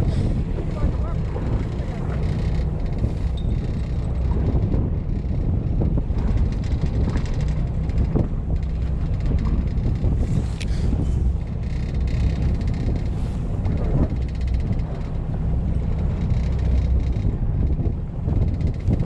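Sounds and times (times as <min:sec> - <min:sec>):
boat engine rumbling: 0:00.0 - 0:19.0
wind noise on microphone: 0:00.0 - 0:19.0.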